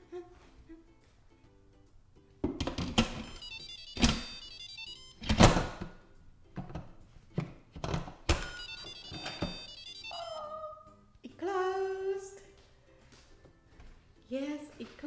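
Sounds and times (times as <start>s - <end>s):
background music with melody: 0.0s - 15.0s.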